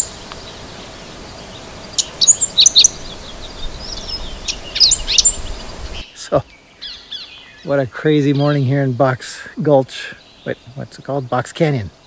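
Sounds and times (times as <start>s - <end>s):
low background noise: 0.0s - 12.0s
sparrow singing: 0.0s - 12.0s.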